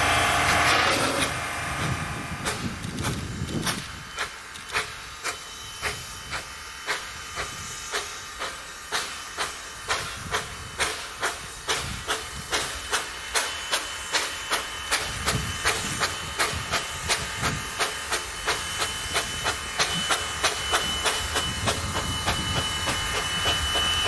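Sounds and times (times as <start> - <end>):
steam hiss: 0.0 - 24.0
steam locomotive chuffing: 0.0 - 24.0.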